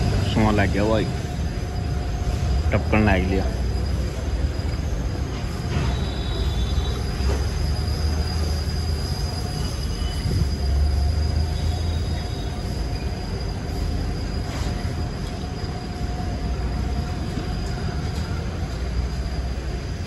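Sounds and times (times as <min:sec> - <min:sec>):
diesel engine running: 0:00.0 - 0:20.0
faint high whine: 0:00.0 - 0:20.0.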